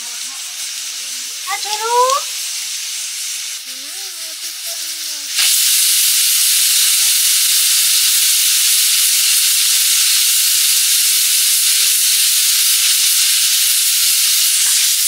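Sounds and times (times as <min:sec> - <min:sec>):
pressure cooker steam hissing: 0:00.0 - 0:15.0.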